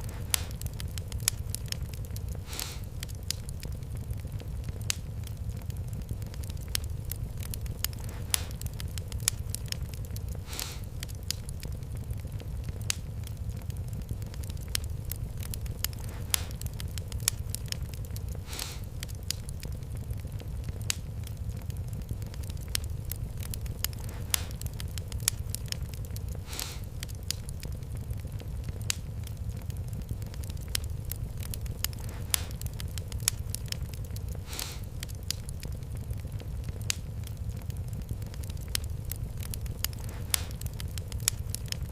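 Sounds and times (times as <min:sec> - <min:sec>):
fire crackling and popping: 0:00.0 - 0:41.9
fire hissing: 0:00.0 - 0:41.9.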